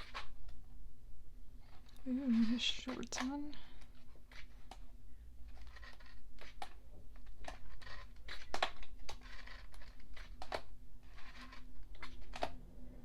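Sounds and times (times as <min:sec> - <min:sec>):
book pages turning: 0:01.6 - 0:12.7.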